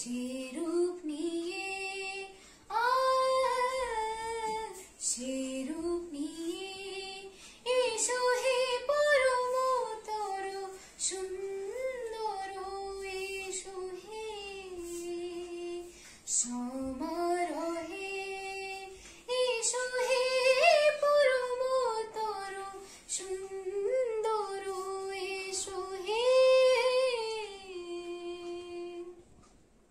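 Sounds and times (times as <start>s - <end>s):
woman singing unaccompanied: 0.0s - 29.2s
girl singing along: 0.0s - 29.3s.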